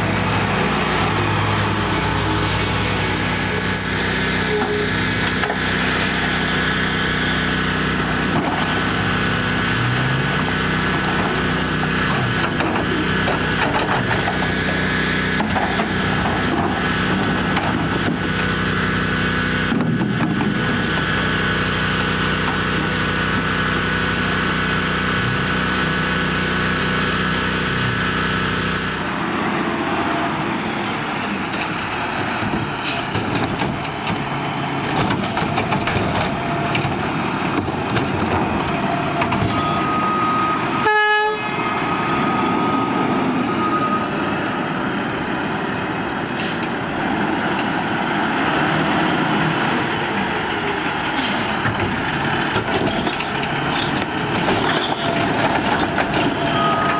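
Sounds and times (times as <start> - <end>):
garbage truck engine: 0.0 - 56.9.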